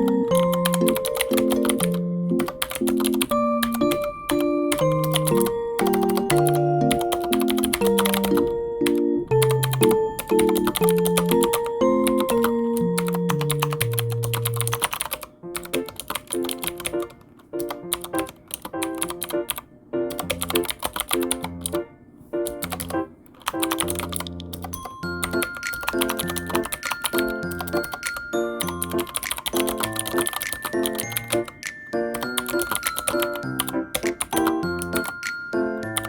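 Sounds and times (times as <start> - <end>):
typing on computer keyboard: 0.0 - 21.8, 22.4 - 36.0
gentle background music: 0.0 - 36.0.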